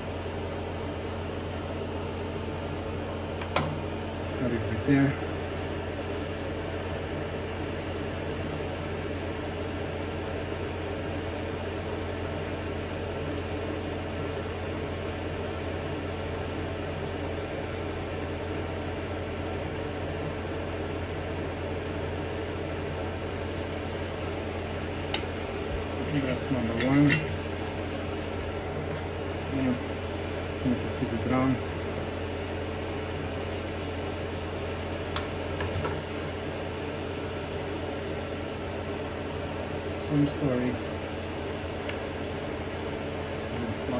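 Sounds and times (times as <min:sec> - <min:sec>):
fan-like hum: 0:00.0 - 0:43.9.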